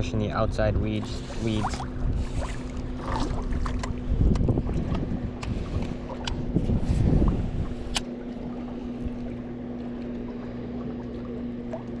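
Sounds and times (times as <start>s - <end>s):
steady low hum: 0.0s - 12.0s
wind rumbling on microphone: 0.0s - 12.0s.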